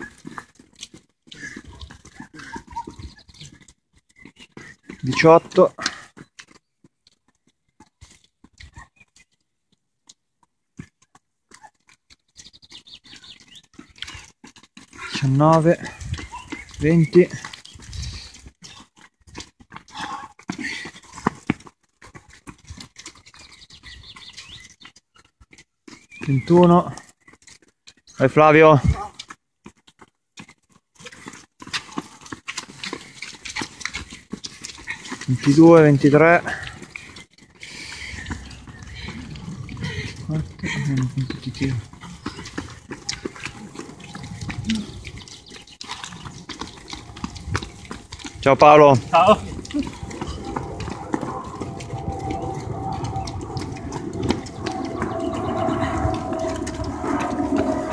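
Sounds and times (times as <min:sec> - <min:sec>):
running footsteps on pavement: 0:00.0 - 0:57.9.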